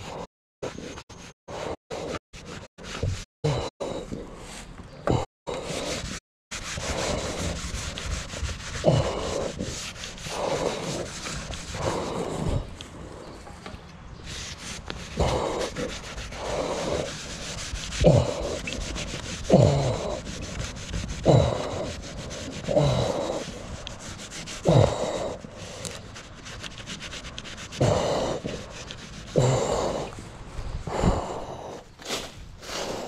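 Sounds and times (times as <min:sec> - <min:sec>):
heavy breathing through respirator mask: 0:03.5 - 0:26.9, 0:27.5 - 0:33.0.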